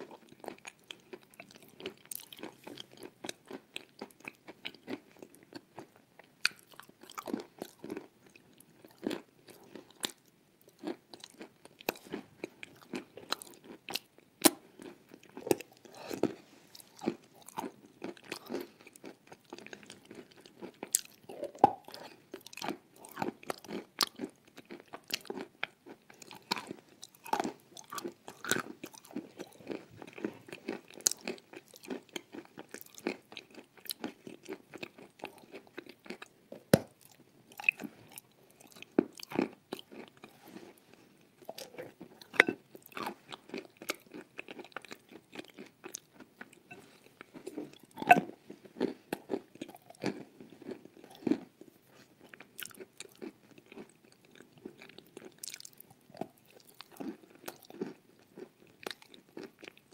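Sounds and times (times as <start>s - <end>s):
chewing: 0.0s - 59.9s.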